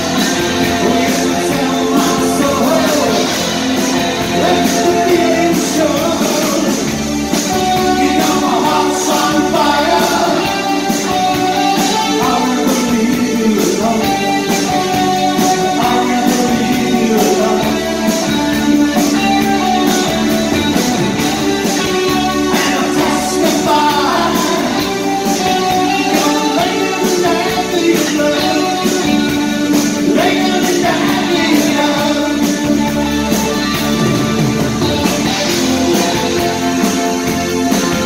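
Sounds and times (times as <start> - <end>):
drums: 0.0 - 38.0
electric guitars: 0.0 - 38.0
lead singer: 0.0 - 38.0.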